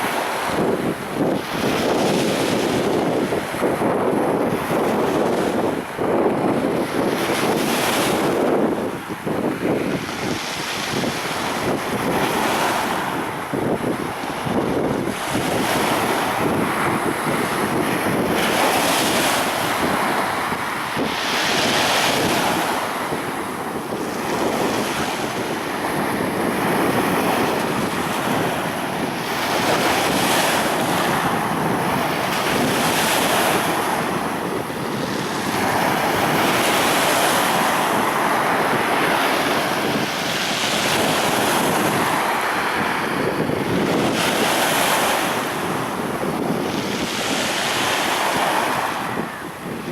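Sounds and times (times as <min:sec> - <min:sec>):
waves breaking on a beach: 0:00.0 - 0:49.9.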